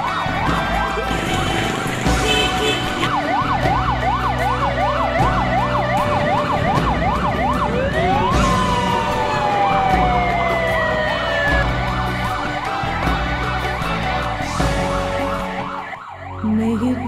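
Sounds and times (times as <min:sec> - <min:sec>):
ambulance siren: 0:00.0 - 0:17.0.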